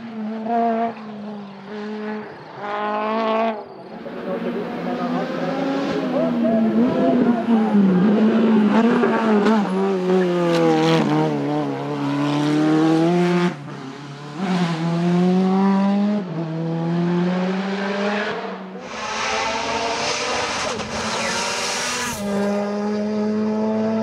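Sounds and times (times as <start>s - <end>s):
racing car engine accelerating: 0.1s - 24.0s.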